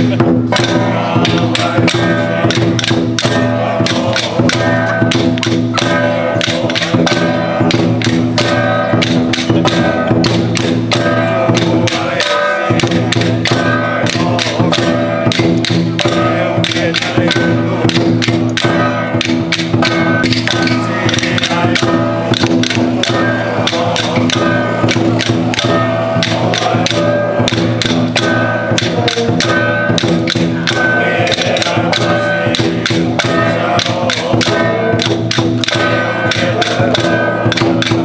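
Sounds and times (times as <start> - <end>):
wood block taps: 0.0 - 38.0.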